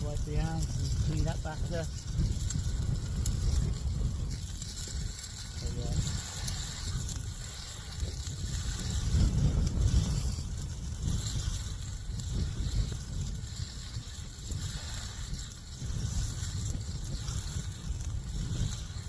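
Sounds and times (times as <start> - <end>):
steady hiss: 0.0 - 19.0
wind buffeting microphone: 0.0 - 19.0
wind gusting against tent: 0.0 - 19.0.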